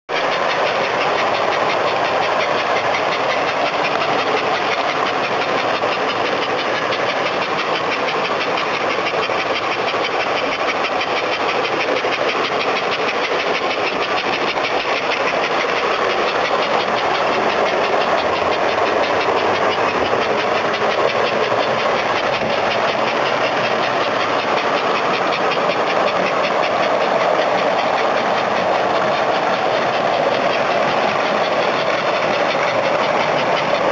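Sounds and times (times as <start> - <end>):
model trains running on track: 0.1 - 33.9.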